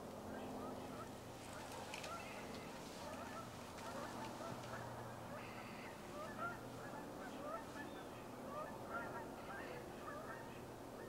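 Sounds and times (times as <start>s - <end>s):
flock of birds calling: 0.0s - 11.0s
low steady hum: 0.0s - 11.0s.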